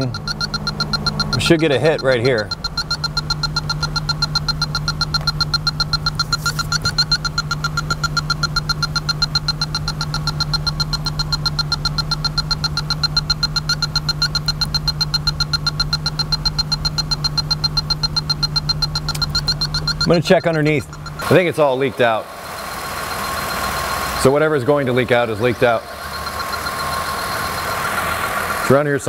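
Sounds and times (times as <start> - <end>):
car engine hum: 0.0 - 29.0
leak detector beeping rapidly: 0.0 - 29.0.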